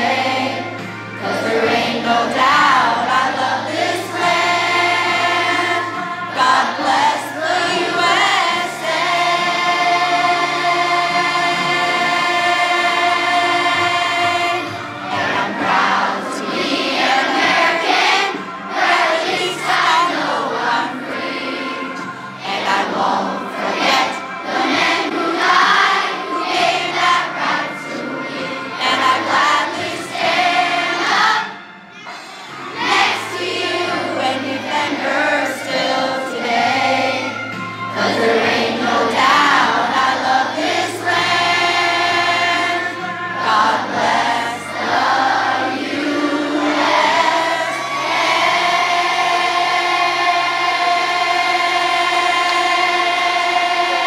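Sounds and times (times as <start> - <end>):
children singing together: 0.0 - 54.0
musical accompaniment: 0.0 - 54.0.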